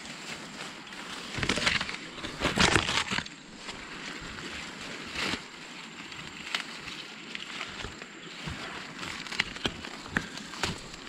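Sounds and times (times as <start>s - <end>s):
dry corn leaves rustling: 0.0s - 11.0s.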